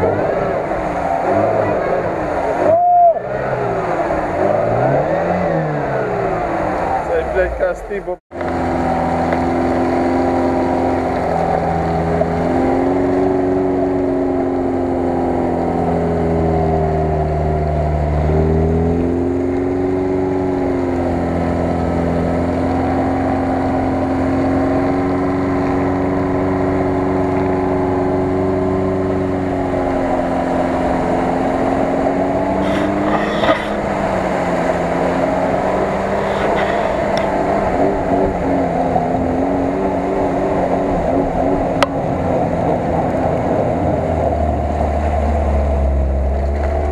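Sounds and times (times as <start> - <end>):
car engine revving under load: 0.0 - 46.9.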